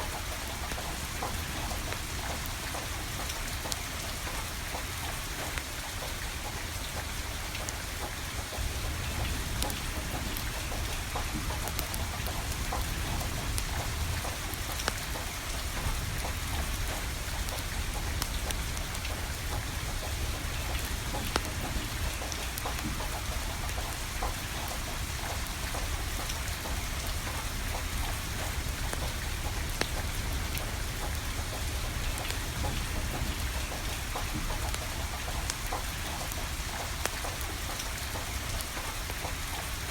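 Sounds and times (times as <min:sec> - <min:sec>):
rain falling: 0:00.0 - 0:39.9
firewood crackling and popping: 0:07.0 - 0:39.9.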